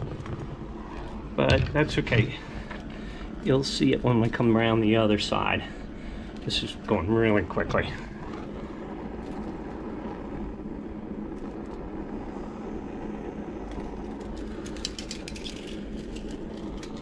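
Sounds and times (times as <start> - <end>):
butane torch hissing: 0.0 - 17.0.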